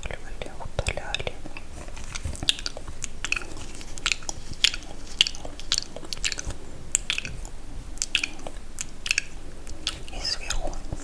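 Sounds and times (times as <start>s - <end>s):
wet mouth clicks and smacks: 0.8s - 11.0s.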